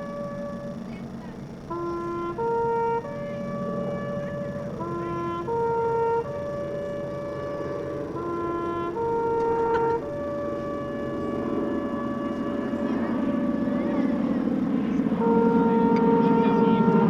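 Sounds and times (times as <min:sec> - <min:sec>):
steady drone: 0:00.0 - 0:17.0
three-note tone signal: 0:00.0 - 0:17.0.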